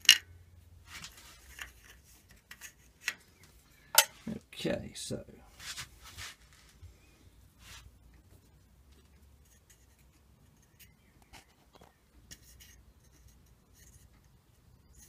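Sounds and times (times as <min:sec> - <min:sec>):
faint scraping and ticking of wood: 0:00.0 - 0:04.5, 0:05.6 - 0:15.0.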